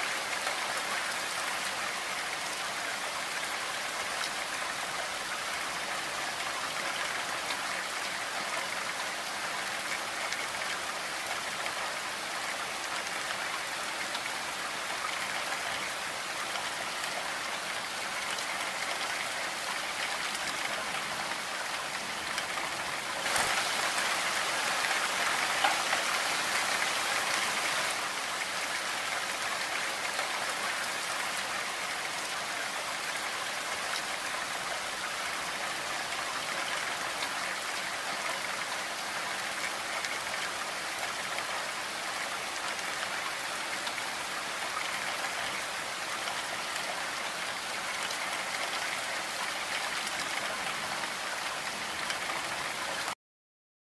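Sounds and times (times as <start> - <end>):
steady rain falling: 0.0 - 53.2.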